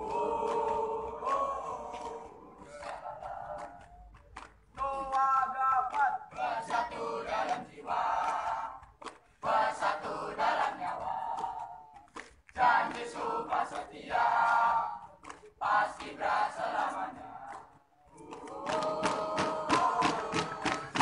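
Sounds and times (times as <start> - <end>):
young voices chanting in unison: 0.0 - 4.0, 6.0 - 8.8, 9.4 - 11.9, 12.6 - 21.0.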